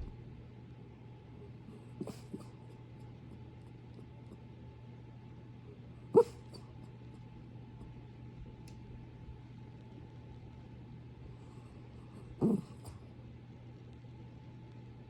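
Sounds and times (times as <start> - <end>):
puppy sleep noises: 0.0 - 15.0.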